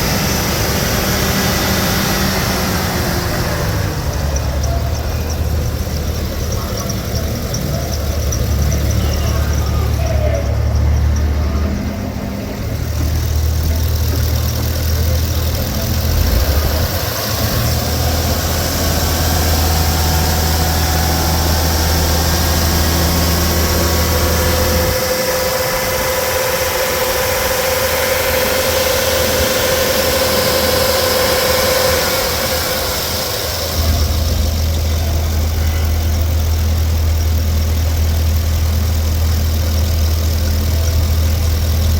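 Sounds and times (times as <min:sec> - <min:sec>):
engine idling and revving: 0:00.0 - 0:41.9.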